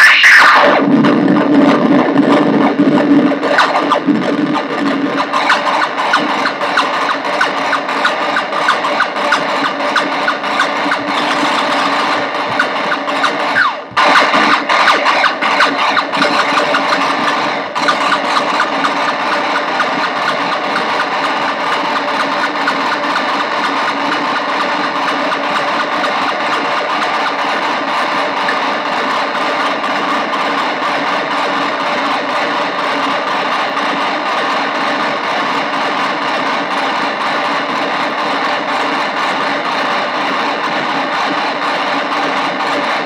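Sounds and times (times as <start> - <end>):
buzzing synthesizer noise drone: 0.0 - 43.0.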